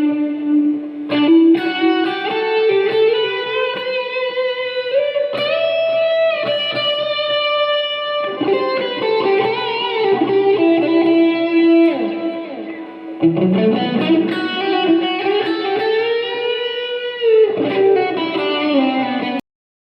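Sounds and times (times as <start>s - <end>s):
electric guitar lead: 0.0s - 19.4s.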